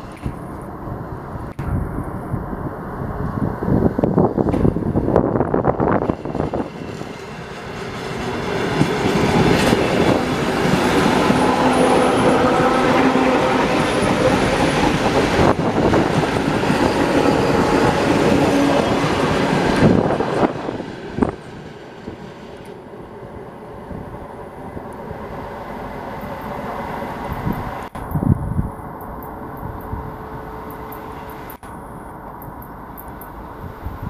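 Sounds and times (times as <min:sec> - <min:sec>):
electric train running past: 0:00.0 - 0:34.0.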